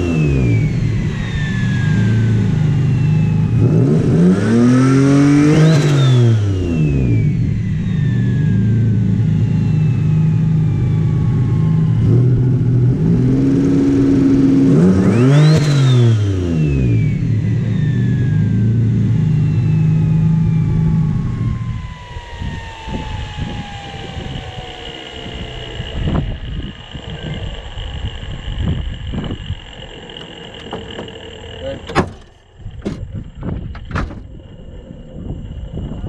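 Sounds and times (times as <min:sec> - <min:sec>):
car engine idling and revving: 0:00.0 - 0:36.0
turbo whine: 0:00.0 - 0:36.0.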